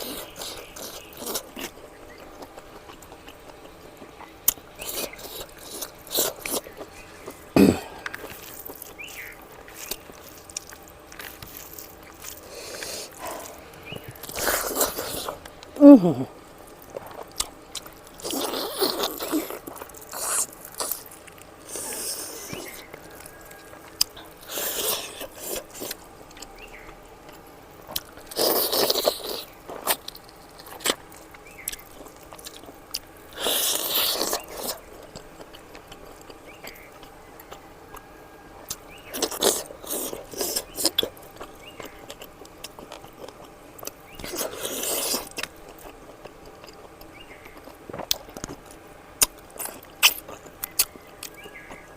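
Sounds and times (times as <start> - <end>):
chewing and slurping food: 0.0 - 15.8, 16.5 - 51.9.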